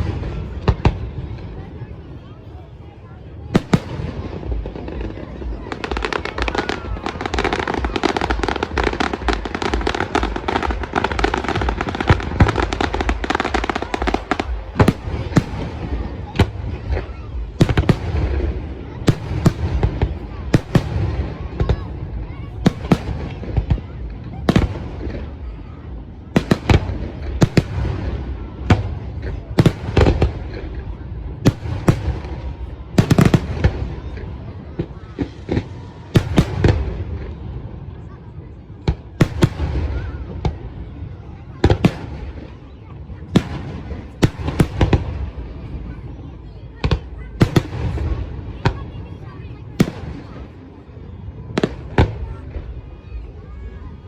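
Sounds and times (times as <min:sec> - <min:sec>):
fireworks crackling: 0:00.0 - 0:54.0
loud firework bangs: 0:03.4 - 0:53.8.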